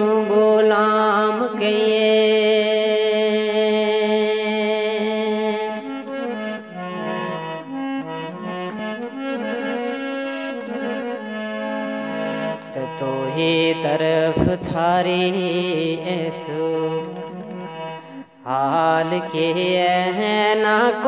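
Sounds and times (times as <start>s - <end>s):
reedy keyboard melody over drone: 0.0s - 21.0s.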